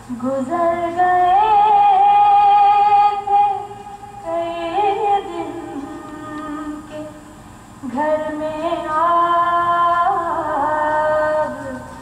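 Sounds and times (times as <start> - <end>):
woman singing slow melody: 0.0 - 12.0.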